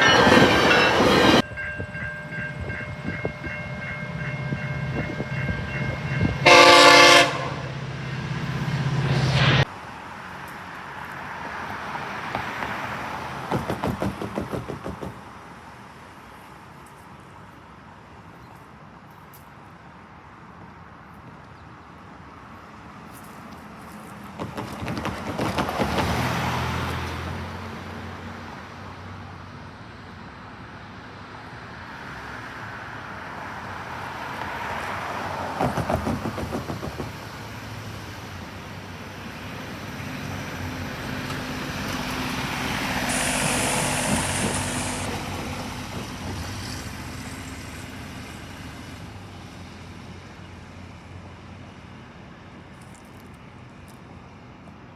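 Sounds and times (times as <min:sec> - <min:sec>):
vehicles passing by: 0:00.0 - 0:54.9.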